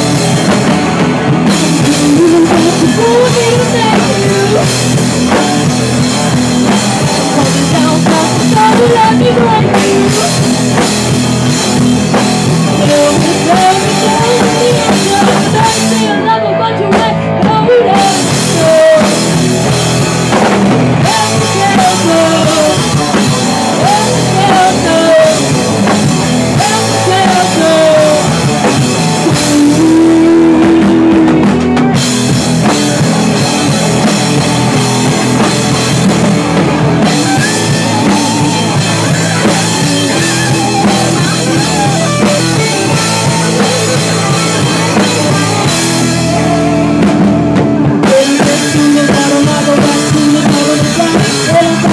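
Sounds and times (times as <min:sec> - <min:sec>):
bass guitar: 0:00.0 - 0:51.9
drum kit: 0:00.0 - 0:51.9
electric guitar: 0:00.0 - 0:51.9.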